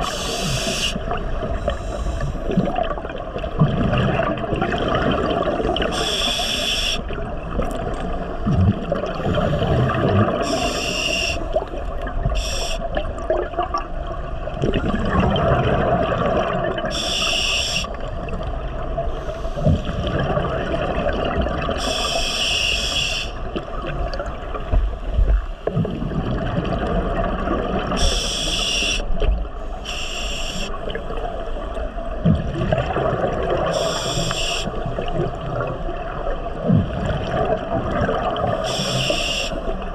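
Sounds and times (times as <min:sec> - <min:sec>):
exhaled bubbles hissing: 0:00.0 - 0:07.4, 0:08.2 - 0:13.8, 0:14.4 - 0:24.2, 0:25.6 - 0:39.9
underwater watery wash: 0:00.0 - 0:39.9.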